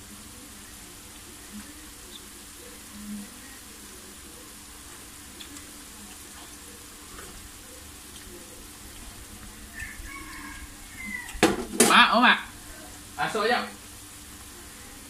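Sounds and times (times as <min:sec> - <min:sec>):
broth boiling in a wok: 0:00.0 - 0:15.0.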